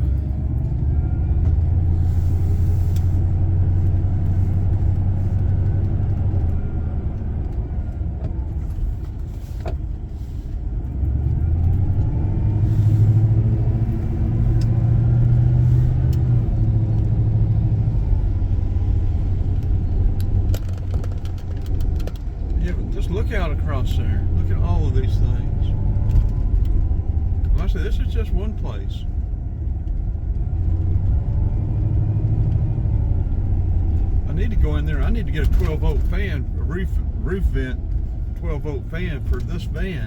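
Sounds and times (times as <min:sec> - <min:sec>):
van engine and road noise: 0:00.0 - 0:40.0.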